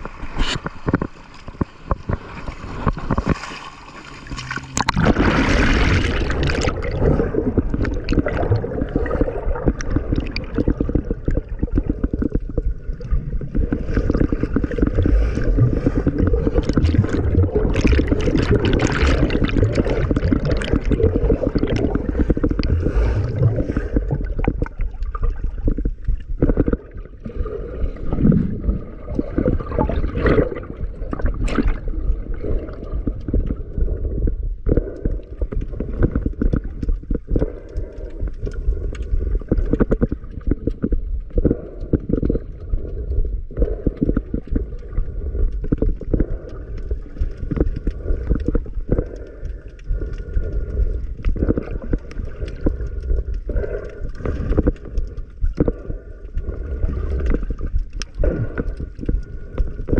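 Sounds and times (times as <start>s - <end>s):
water churning and gurgling: 0.0s - 59.9s.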